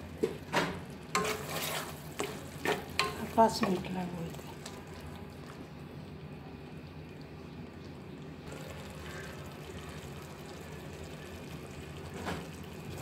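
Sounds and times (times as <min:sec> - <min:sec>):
curry bubbling and sizzling: 0:00.0 - 0:13.0.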